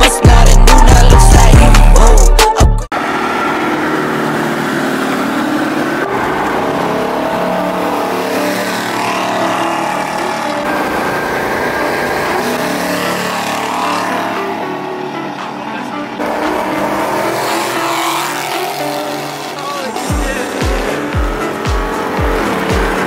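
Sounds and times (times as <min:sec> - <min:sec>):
road noise: 0:00.5 - 0:23.0
car engine accelerating: 0:02.9 - 0:23.0.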